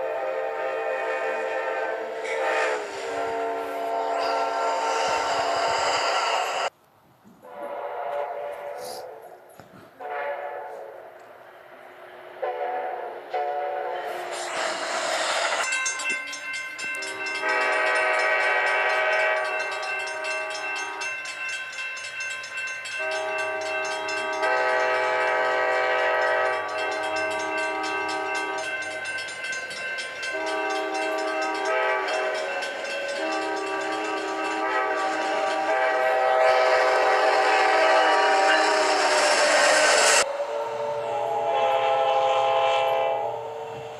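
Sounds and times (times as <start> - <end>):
train air horn blasts: 0.0 - 6.4, 7.4 - 11.2, 12.2 - 14.6, 17.0 - 21.1, 23.0 - 29.0, 30.3 - 43.9
passing train noise: 0.0 - 43.9.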